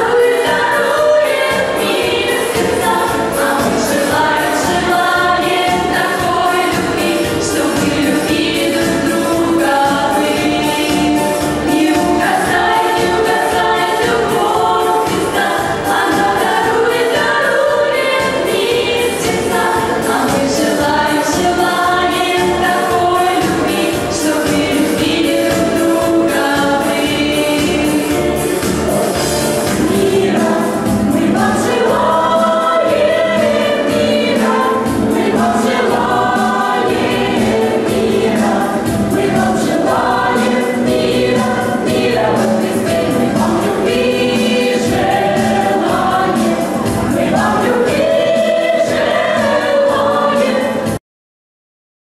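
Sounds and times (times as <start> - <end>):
mixed group singing in parts: 0.0 - 51.0.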